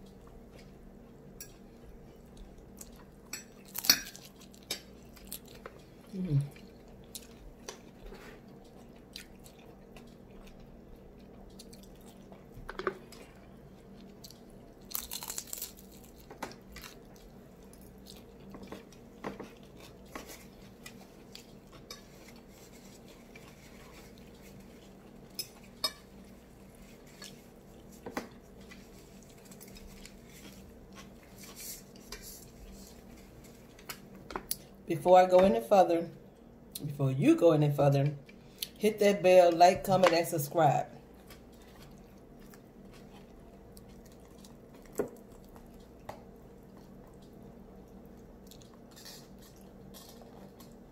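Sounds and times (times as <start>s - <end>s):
chewing and crunching: 0.0s - 34.8s, 41.0s - 50.9s
faint steady hum: 0.0s - 50.9s.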